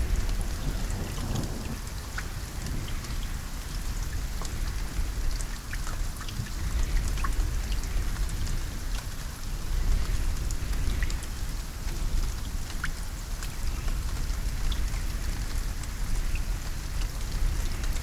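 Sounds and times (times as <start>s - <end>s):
continuous low rumble: 0.0s - 18.0s
raindrops tapping: 0.0s - 18.0s.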